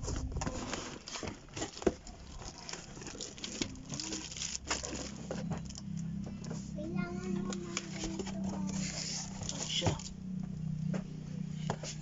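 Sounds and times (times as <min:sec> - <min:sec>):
cardboard and plastic packaging rustling: 0:00.0 - 0:10.2.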